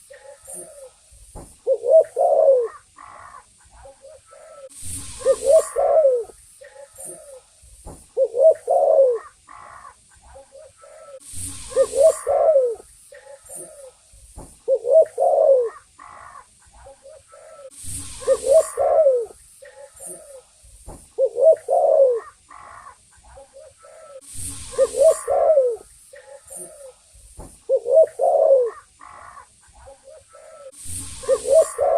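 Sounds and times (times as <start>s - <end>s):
dove cooing: 0.0s - 7.5s, 8.1s - 14.0s, 14.6s - 20.5s, 21.2s - 27.0s, 27.7s - 31.9s.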